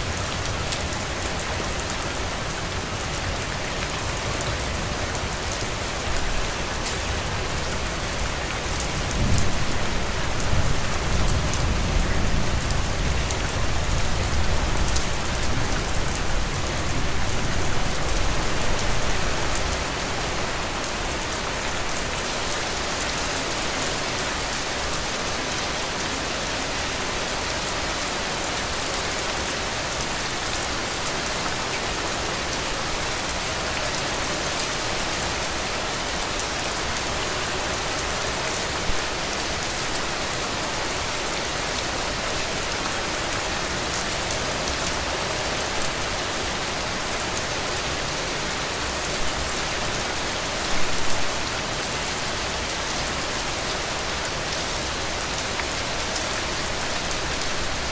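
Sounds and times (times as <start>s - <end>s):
loud rain hits: 0.0s - 57.9s.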